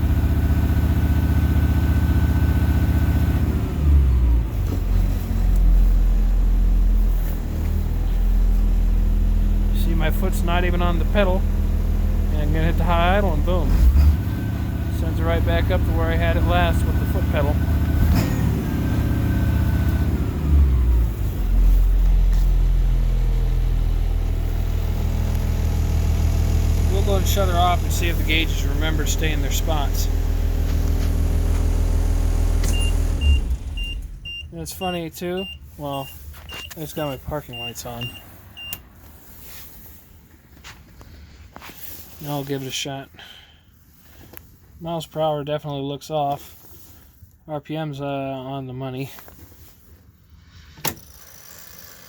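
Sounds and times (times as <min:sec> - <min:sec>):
bus engine idling: 0:00.0 - 0:42.0.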